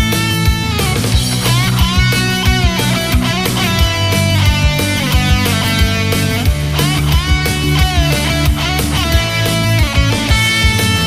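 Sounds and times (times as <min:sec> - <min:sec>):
distorted electric guitar: 0:00.0 - 0:11.0
steady drum beat: 0:00.0 - 0:11.0.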